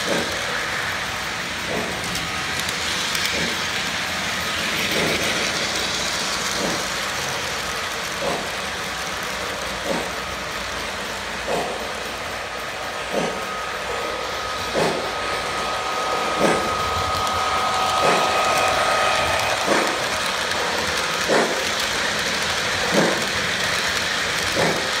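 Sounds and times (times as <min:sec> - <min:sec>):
model train rolling rumble: 0:00.0 - 0:25.0.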